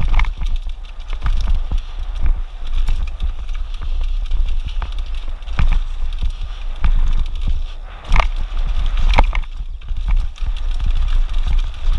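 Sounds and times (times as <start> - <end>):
bike knocks and rattles: 0.0 - 11.9
tyres crunching over stones: 0.0 - 11.9
wind rumble on microphone: 0.0 - 11.9.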